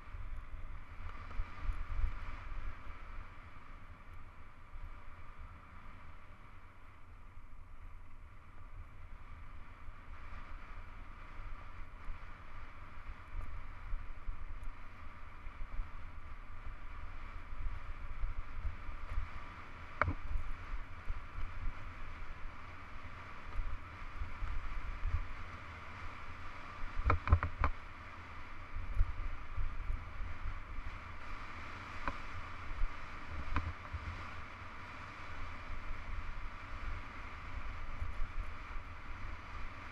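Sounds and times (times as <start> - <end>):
bike tyres on gravel: 0.0 - 39.9
wind rumbling on microphone: 0.0 - 39.9.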